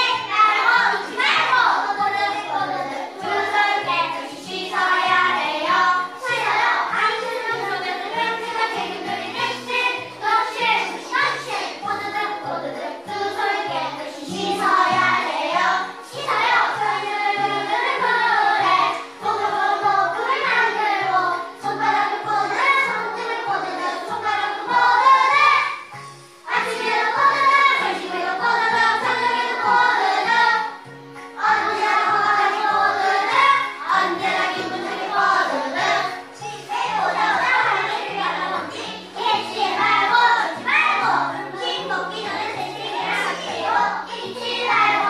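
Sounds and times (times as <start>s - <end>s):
children singing: 0.0s - 45.0s.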